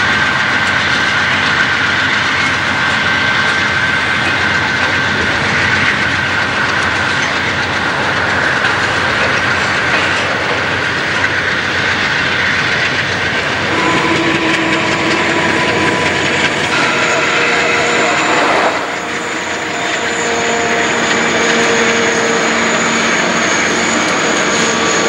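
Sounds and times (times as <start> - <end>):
train wheels clicking over rail joints: 0.0 - 25.0.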